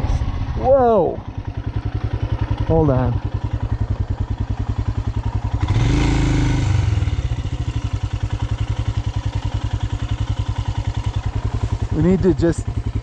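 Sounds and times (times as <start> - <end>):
single-cylinder motorcycle engine thumping: 0.0 - 13.0.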